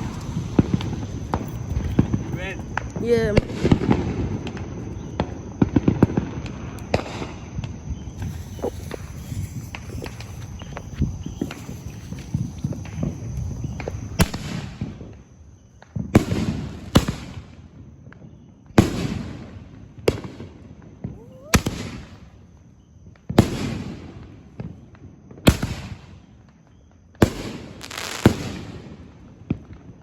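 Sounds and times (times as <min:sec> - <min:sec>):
fireworks banging and crackling: 0:00.0 - 0:22.5, 0:23.1 - 0:26.6, 0:27.2 - 0:30.0.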